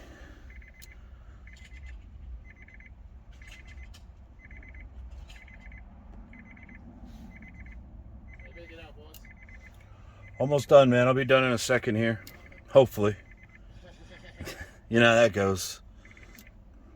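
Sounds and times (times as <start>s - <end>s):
car warning chime beeps: 0.0s - 16.9s.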